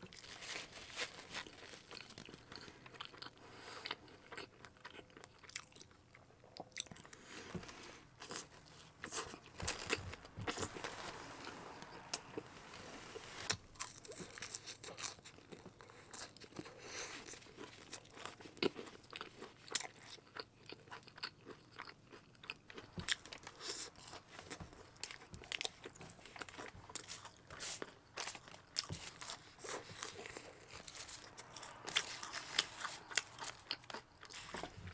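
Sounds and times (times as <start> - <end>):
chewing and crunching food: 0.0 - 34.9.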